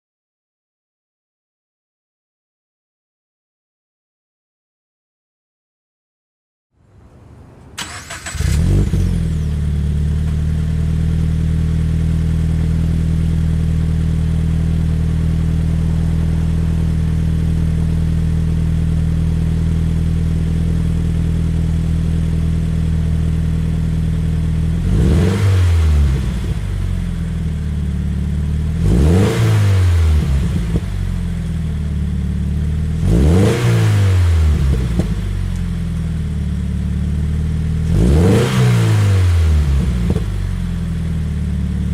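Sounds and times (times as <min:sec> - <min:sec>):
car engine idling and revving: 0:07.8 - 0:41.9.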